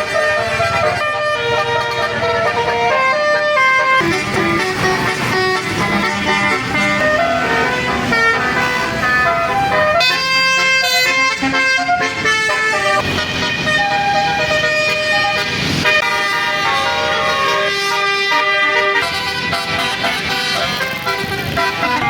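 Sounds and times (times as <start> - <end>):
multi-note bus horn melody: 0.0 - 22.0.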